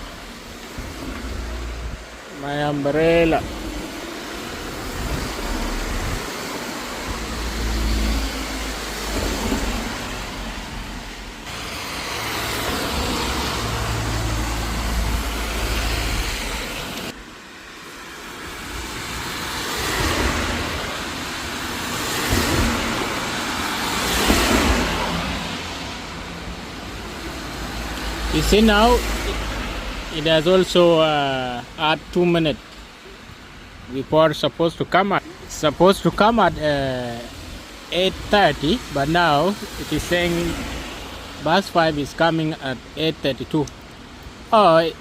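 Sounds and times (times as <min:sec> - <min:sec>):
low rumble of traffic: 0:00.0 - 0:45.0
tyres hissing on wet road: 0:00.0 - 0:45.0.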